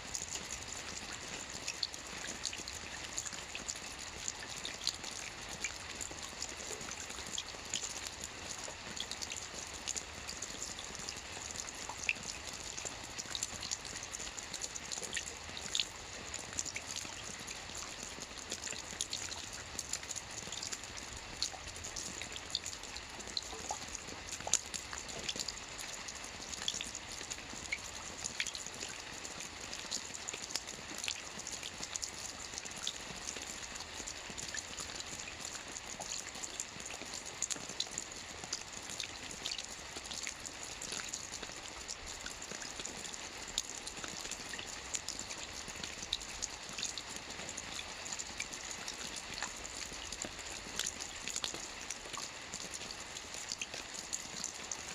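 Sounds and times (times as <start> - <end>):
light rain falling: 0.0 - 54.9.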